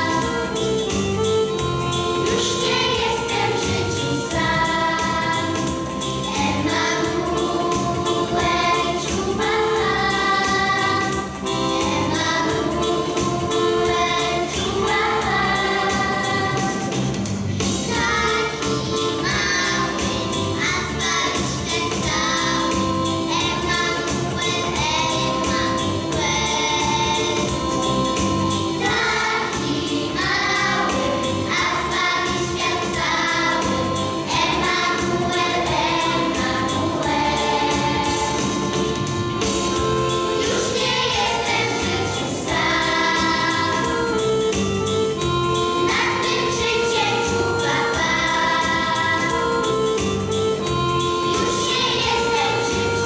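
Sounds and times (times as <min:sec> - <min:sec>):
children's choir singing: 0:00.0 - 0:53.0
instrumental backing with beat: 0:00.0 - 0:53.0.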